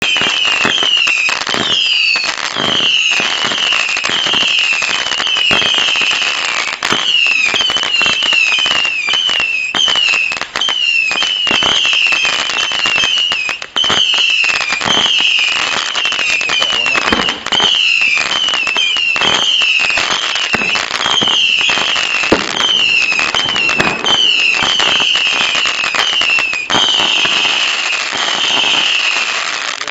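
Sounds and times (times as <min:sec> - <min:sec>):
firework pops and crackle: 0:00.0 - 0:29.9
firework whistling shots: 0:00.0 - 0:29.9.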